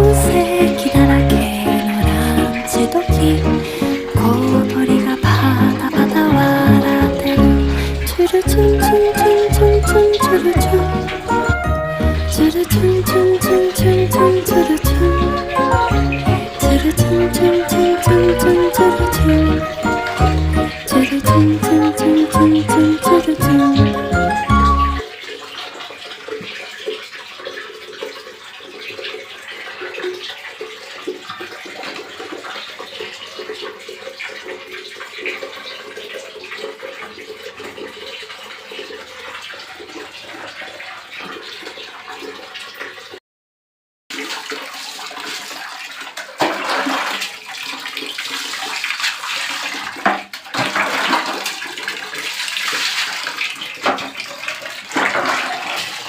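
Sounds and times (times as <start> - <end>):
water running and splashing: 0.0 - 43.2, 44.1 - 56.0.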